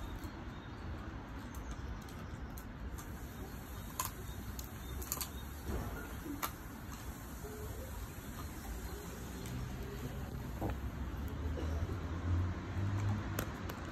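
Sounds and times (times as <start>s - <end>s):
puppy crunching chicken foot: 1.4s - 11.4s, 12.8s - 13.9s.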